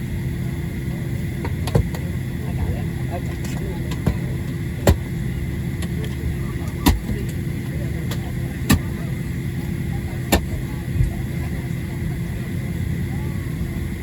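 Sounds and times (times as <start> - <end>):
cabin air supply hum: 0.0 - 14.0.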